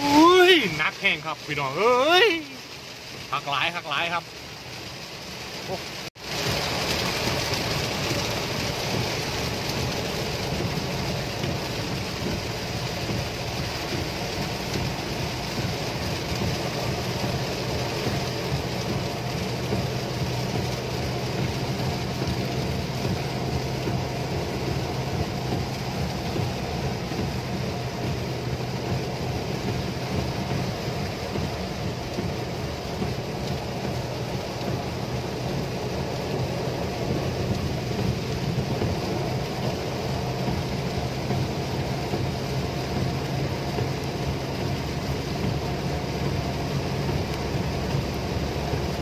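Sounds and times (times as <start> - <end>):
car engine and tyres hum: 0.0 - 49.0
heavy rain on car roof: 0.0 - 49.0.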